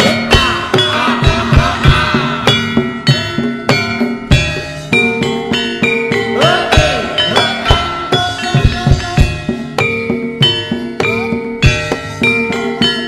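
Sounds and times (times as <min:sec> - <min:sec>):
gliding melodic line: 0:00.0 - 0:13.0
ringing metallophone notes: 0:00.0 - 0:13.0.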